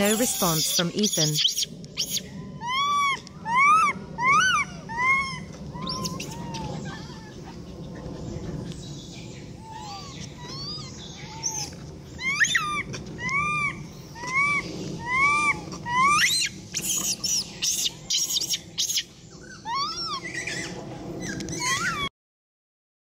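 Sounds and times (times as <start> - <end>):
monkey squeaking: 0.0 - 6.7, 9.8 - 22.0
monkey calling: 0.0 - 8.5, 9.6 - 22.1.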